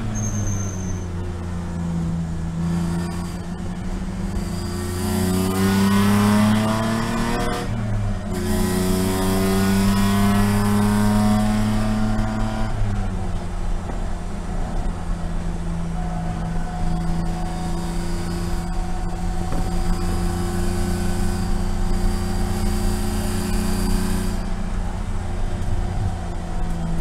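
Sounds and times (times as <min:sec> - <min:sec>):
race car engine from inside cabin: 0:00.0 - 0:27.0.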